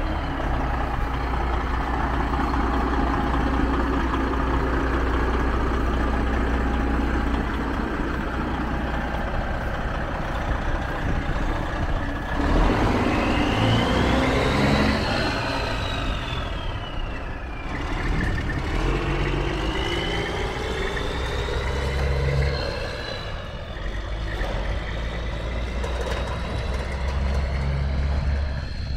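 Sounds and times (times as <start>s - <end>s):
diesel truck engine: 0.0s - 28.9s.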